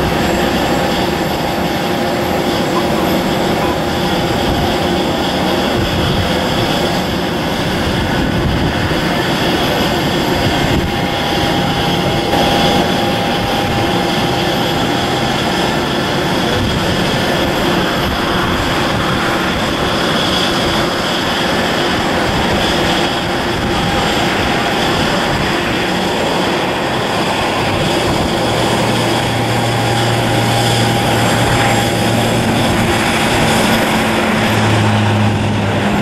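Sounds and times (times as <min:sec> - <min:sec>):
turboprop engines droning: 0:00.0 - 0:36.0.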